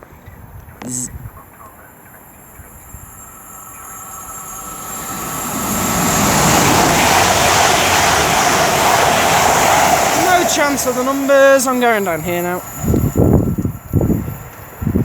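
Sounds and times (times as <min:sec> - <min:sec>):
diesel train passing at speed: 0:01.6 - 0:15.0.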